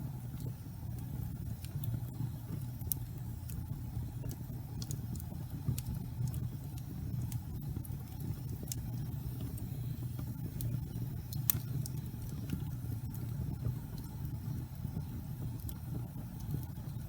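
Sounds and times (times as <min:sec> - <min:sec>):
fire crackles and pops: 0:00.0 - 0:17.0
fire flames rumbling: 0:00.0 - 0:17.0.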